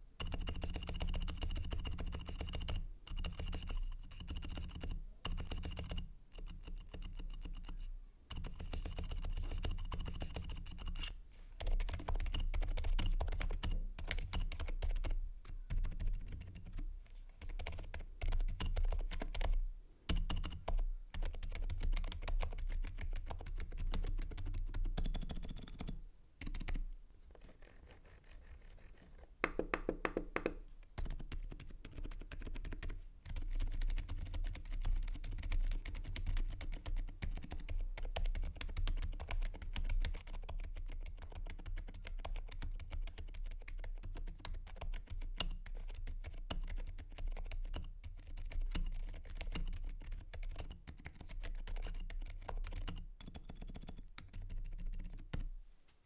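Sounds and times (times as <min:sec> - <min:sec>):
typing on mechanical keyboard: 0:00.2 - 0:11.0, 0:11.6 - 0:16.8, 0:17.4 - 0:26.8, 0:31.0 - 0:55.4.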